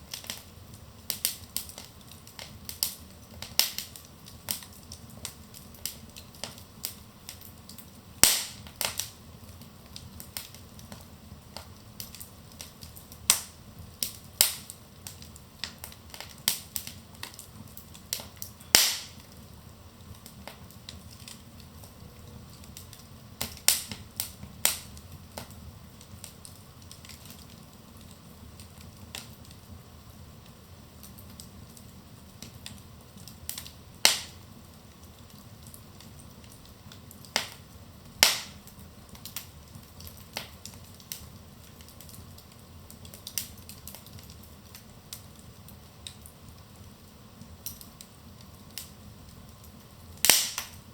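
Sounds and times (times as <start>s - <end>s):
hiss of flames: 0.0s - 50.9s
wood fire crackling: 0.0s - 50.9s.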